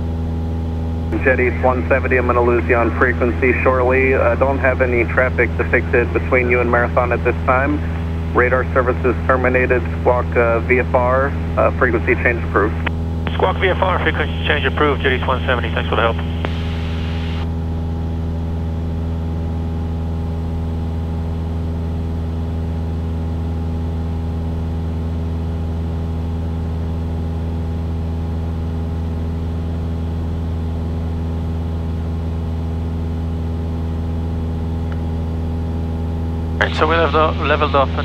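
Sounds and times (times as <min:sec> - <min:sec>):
airplane engine and propeller drone: 0:00.0 - 0:38.0.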